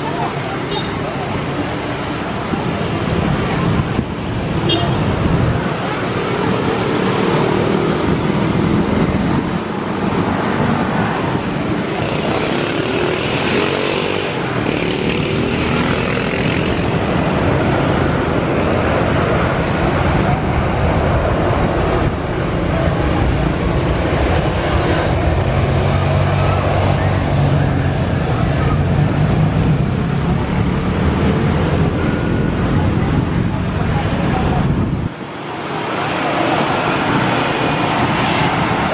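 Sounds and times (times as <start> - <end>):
high engine whine: 0.0 - 38.9
jet engines rushing: 0.0 - 38.9.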